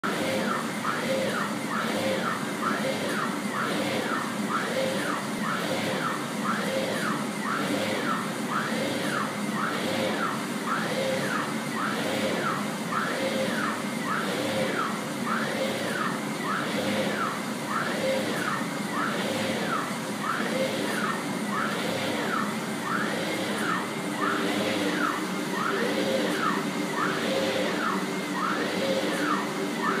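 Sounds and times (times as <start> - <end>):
drive motors whining: 0.0 - 30.0
steady mechanical hum: 0.0 - 30.0.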